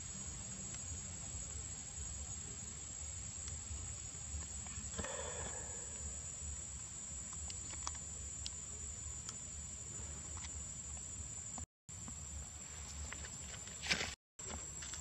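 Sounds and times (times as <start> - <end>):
high insect tone: 0.0 - 15.0.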